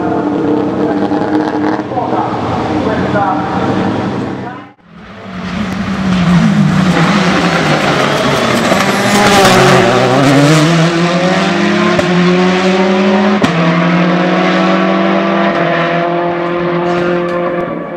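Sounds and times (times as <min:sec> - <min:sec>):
rally car engine at high revs: 0:00.0 - 0:17.9.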